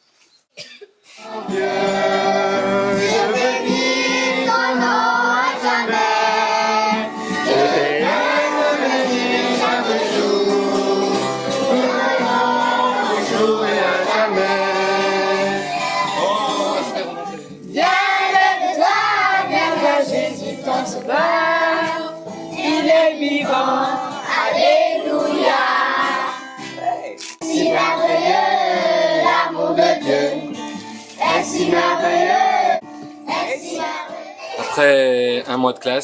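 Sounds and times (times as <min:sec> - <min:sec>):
acoustic guitar: 0:00.8 - 0:35.9
children singing in chorus: 0:01.2 - 0:17.0, 0:17.7 - 0:26.6, 0:27.4 - 0:30.6, 0:31.2 - 0:34.7.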